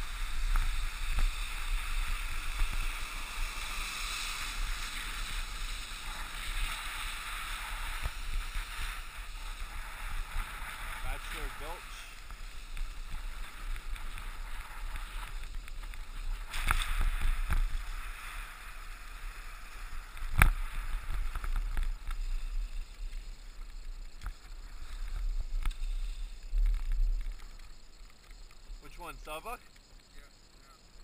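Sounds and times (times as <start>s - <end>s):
skis sliding on snow: 0.0s - 27.6s
wind rumble: 0.0s - 28.8s.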